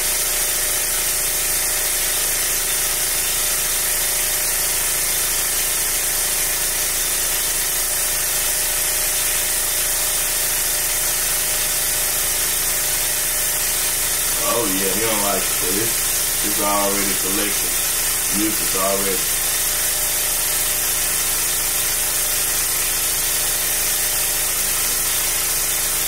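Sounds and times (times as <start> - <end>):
suction pump motor humming: 0.0 - 26.0.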